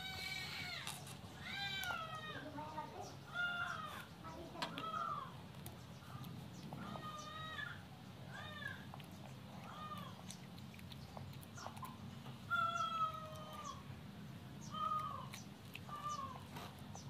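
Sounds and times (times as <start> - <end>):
high animal calls: 0.0 - 2.7, 3.3 - 5.4, 6.1 - 10.6, 11.6 - 13.9, 14.6 - 16.8
low steady hum: 0.0 - 17.0.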